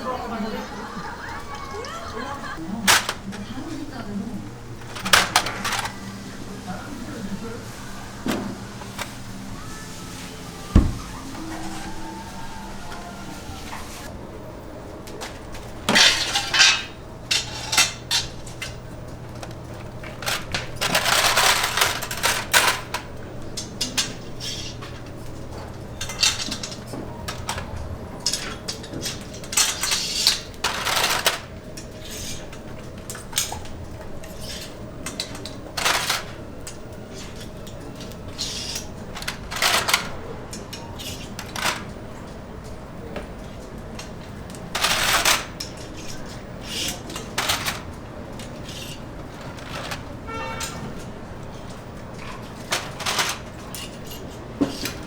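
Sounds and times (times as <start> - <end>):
dishes and utensils clinking: 0.0 - 14.1, 15.1 - 55.0.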